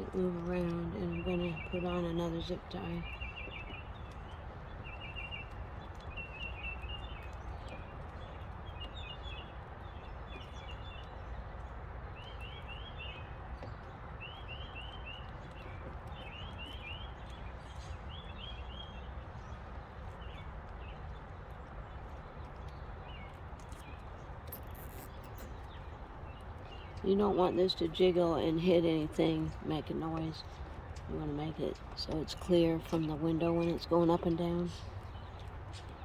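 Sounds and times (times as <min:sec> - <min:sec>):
low outdoor background noise: 0:00.0 - 0:36.0
songbird chirping trills: 0:00.0 - 0:36.0.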